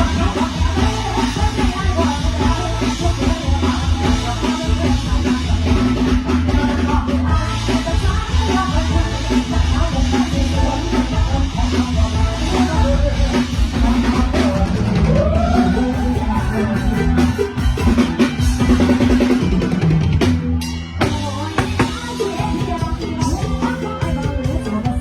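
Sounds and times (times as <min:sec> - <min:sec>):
drum kit beat: 0:00.0 - 0:25.0
live band playing: 0:00.0 - 0:25.0.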